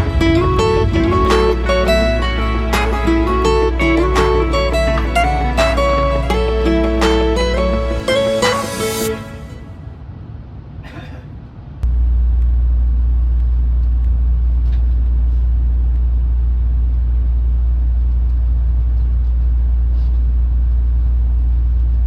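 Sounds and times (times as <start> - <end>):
train interior rumble: 0.0 - 22.0.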